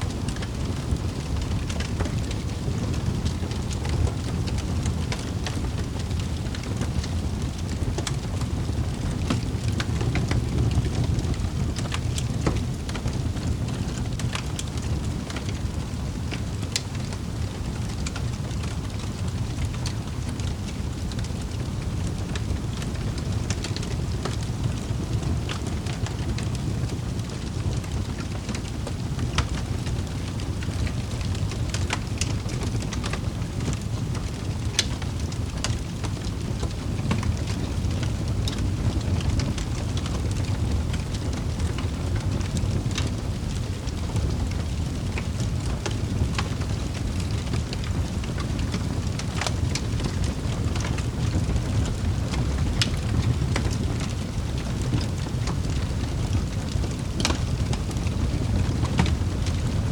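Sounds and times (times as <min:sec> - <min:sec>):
wood fire crackling and popping: 0:00.0 - 0:59.9
fire flames rushing: 0:00.1 - 0:59.9.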